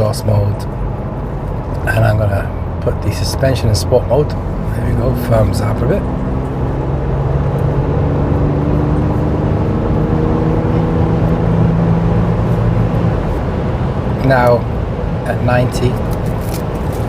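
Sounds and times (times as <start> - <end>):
car engine accelerating: 0.0 - 17.0
road and tyre rumble: 0.0 - 17.0.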